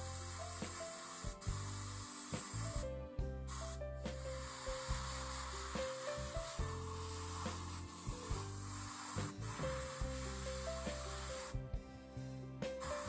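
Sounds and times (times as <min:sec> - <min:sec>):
airbrush spraying hiss: 0:00.0 - 0:13.0
background music with bass line: 0:00.0 - 0:13.0.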